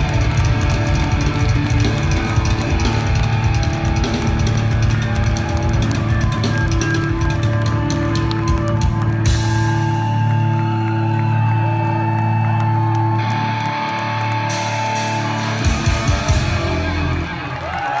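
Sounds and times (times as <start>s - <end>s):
drum kit: 0.0s - 10.8s, 14.4s - 18.0s
bass guitar: 0.0s - 18.0s
electric guitar: 0.0s - 18.0s.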